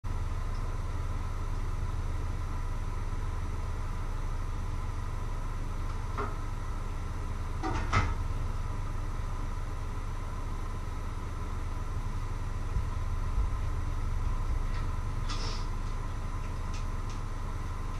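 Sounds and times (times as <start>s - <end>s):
low hum with faint whine: 0.1s - 17.9s.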